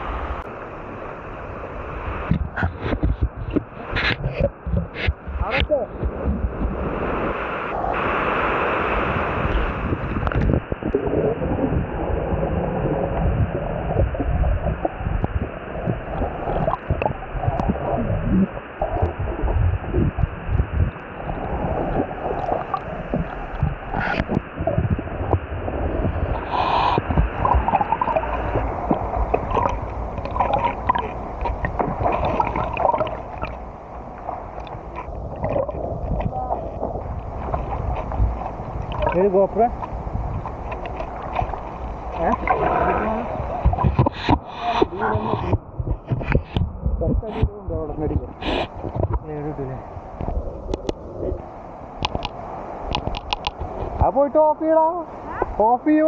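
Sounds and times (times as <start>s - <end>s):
water splashing and gurgling: 0.0s - 54.1s.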